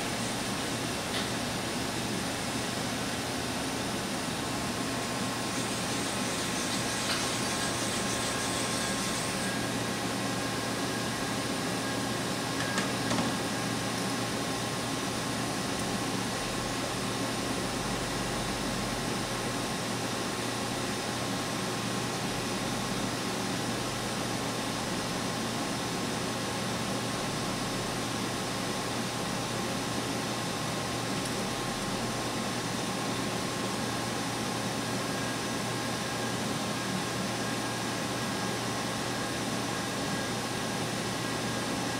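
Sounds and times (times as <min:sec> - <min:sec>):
machine hum and hiss: 0:00.0 - 0:41.9.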